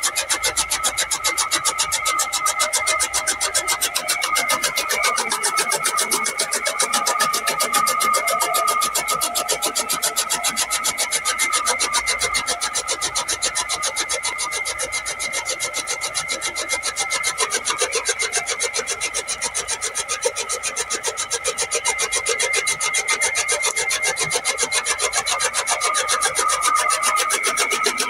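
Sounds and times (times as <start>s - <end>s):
chaff cutter blades chopping fodder: 0.0s - 28.0s
steady machine whine: 0.0s - 28.0s.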